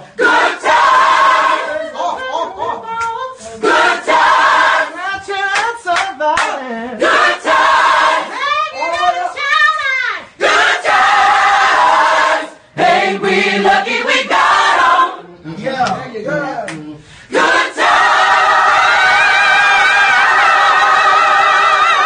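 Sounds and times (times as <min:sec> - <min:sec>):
group of people singing: 0:00.0 - 0:09.4, 0:10.4 - 0:15.6, 0:17.2 - 0:22.0.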